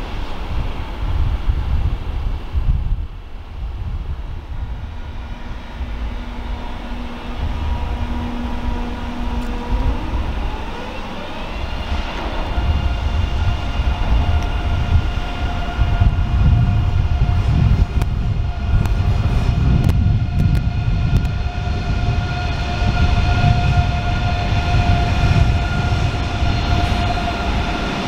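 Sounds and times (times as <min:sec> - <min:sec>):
electric train whine: 0:00.0 - 0:28.0
low train rumble: 0:00.0 - 0:28.0.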